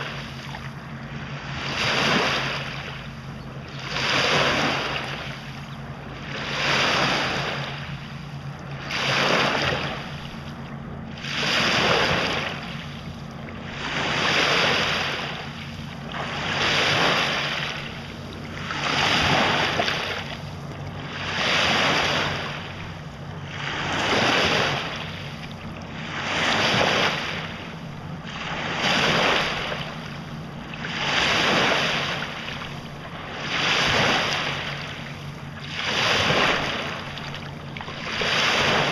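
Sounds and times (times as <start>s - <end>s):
lake waves breaking on shore: 0.0s - 38.9s.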